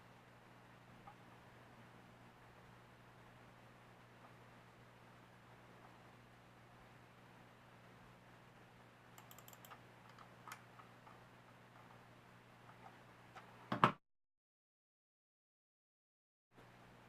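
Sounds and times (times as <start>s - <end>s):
faint low hum: 0.0s - 13.7s.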